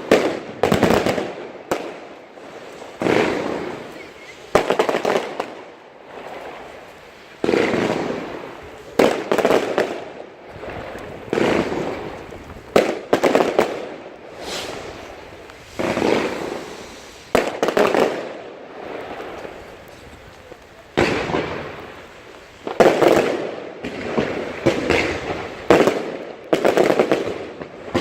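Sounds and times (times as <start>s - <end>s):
fireworks bangs with crackle: 0.0s - 28.0s.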